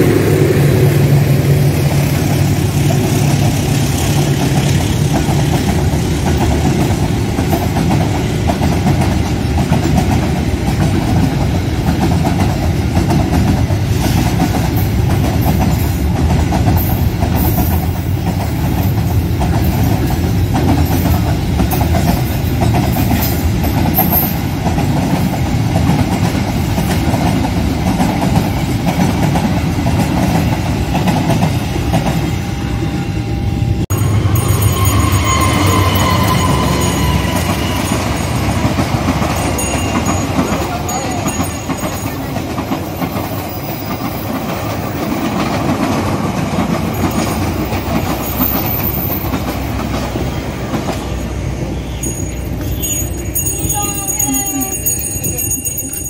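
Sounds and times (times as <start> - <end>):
freight train wagons rolling past: 0.0 - 56.0.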